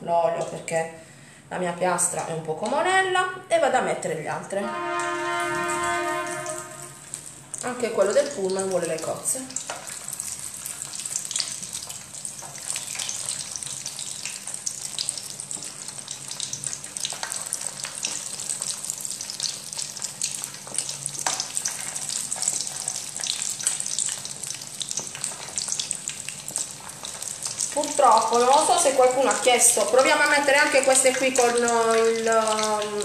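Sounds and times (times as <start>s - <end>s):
deep-frying sizzle with pops: 0.3s - 0.7s, 5.0s - 33.0s.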